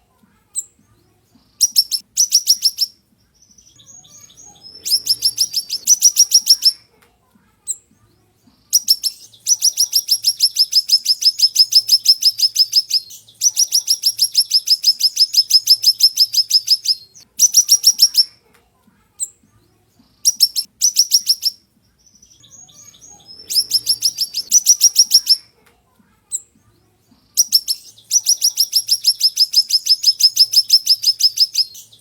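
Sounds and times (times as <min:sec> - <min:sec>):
small bird singing trills: 0:00.5 - 0:06.9, 0:07.7 - 0:18.4, 0:19.2 - 0:25.5, 0:26.3 - 0:32.0
soft bird twittering: 0:00.6 - 0:06.9, 0:07.7 - 0:18.4, 0:19.2 - 0:25.5, 0:26.3 - 0:32.0.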